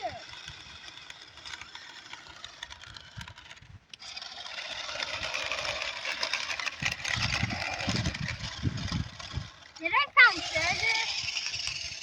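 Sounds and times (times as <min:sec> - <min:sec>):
toy motor whirring: 0:00.0 - 0:12.0
wheels digging into sand: 0:00.0 - 0:12.0.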